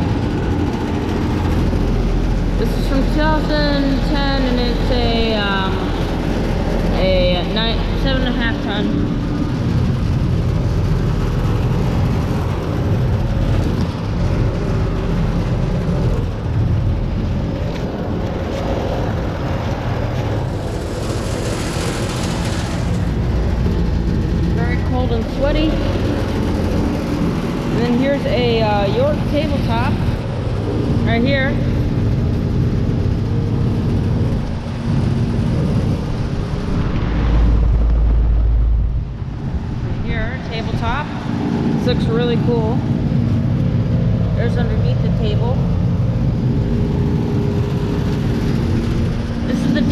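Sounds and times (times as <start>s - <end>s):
air conditioner humming: 0.0s - 49.9s
condensing units running: 0.0s - 49.9s
heavy deep rumble: 0.0s - 49.9s.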